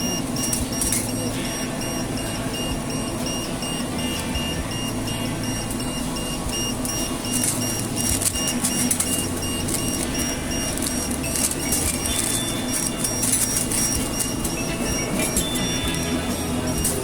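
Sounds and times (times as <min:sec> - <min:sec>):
background music: 0:00.0 - 0:17.0
ice cream machine humming: 0:00.0 - 0:17.0.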